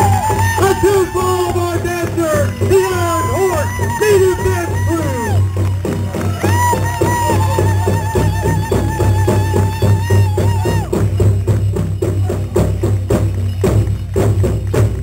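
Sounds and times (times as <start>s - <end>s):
drum beaten in fast steady beat: 0.0s - 15.0s.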